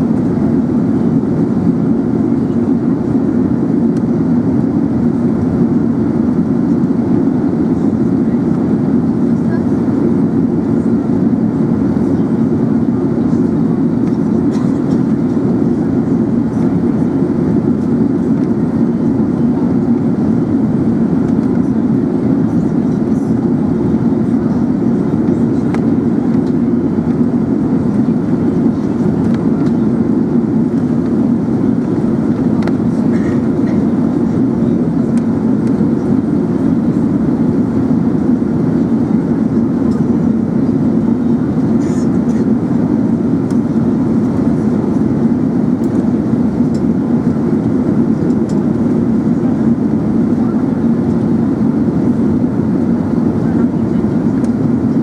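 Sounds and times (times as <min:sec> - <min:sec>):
airplane cabin drone: 0:00.0 - 0:55.0.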